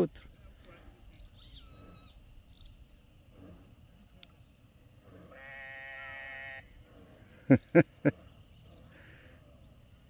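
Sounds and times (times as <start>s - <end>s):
drawn-out animal call: 0.6s - 4.1s, 4.8s - 9.8s.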